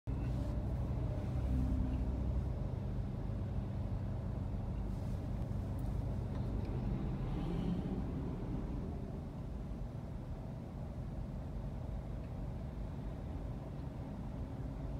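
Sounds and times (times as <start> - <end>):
car engine and road noise: 0.1 - 14.9.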